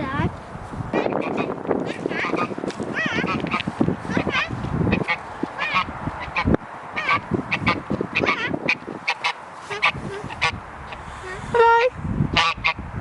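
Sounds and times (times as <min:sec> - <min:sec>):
waterfowl honking calls: 0:00.9 - 0:11.6, 0:12.4 - 0:12.8.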